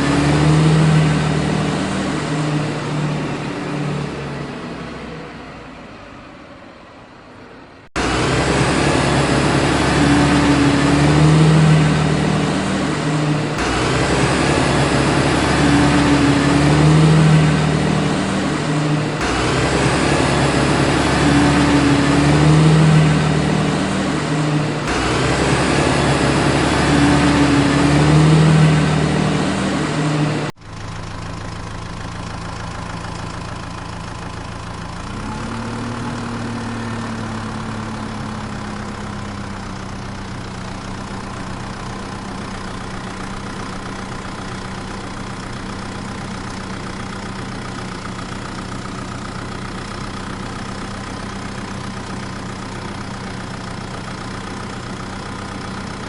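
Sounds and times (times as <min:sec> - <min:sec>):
vehicle engine running: 0:00.0 - 0:06.4, 0:07.8 - 0:56.0.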